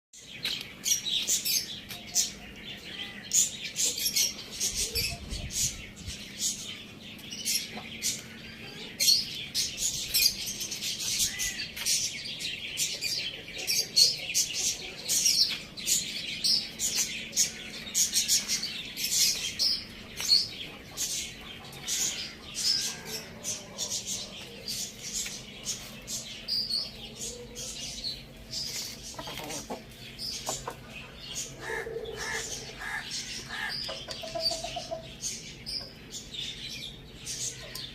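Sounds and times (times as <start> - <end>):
small birds chirping: 0.2 - 37.9.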